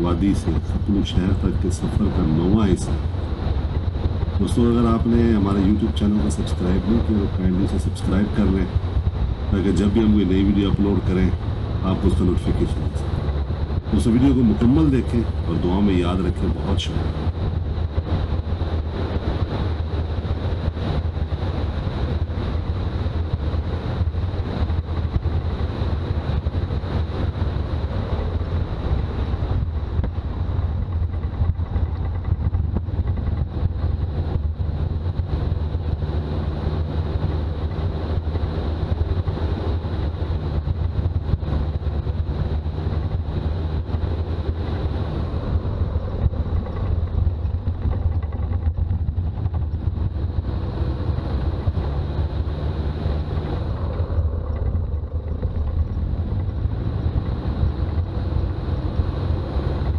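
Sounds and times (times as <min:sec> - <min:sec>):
diesel engine running: 0:00.0 - 0:59.9
road noise: 0:00.0 - 0:59.9.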